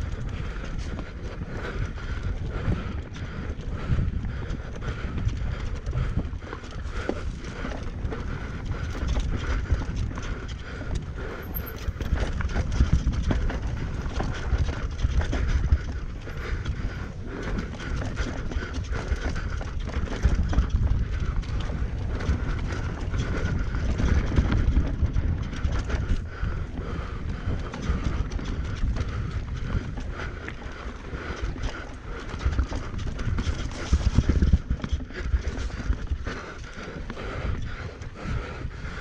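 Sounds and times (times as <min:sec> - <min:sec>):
bike rattling over rocks and roots: 0:00.0 - 0:38.9
wind rumbling on microphone: 0:00.0 - 0:39.0.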